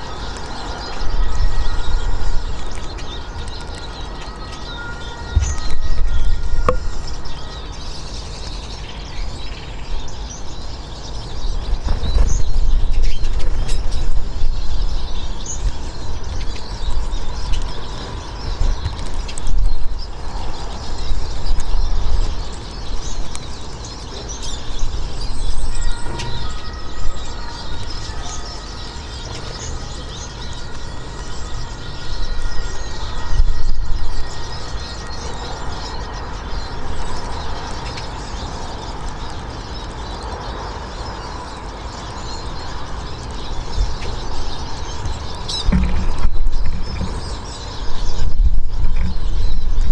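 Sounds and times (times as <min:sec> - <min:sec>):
outdoor background rumble: 0:00.0 - 0:49.9
small birds chirping: 0:00.0 - 0:49.9.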